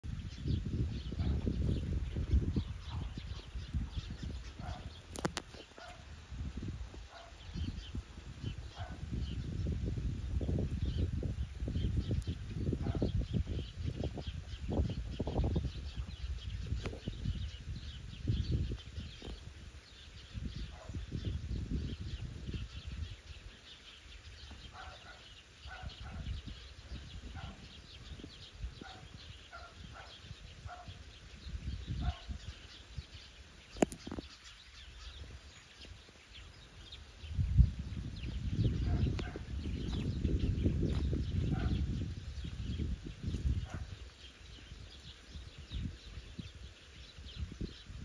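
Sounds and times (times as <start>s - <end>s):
wind rumble on microphone: 0.0s - 48.0s.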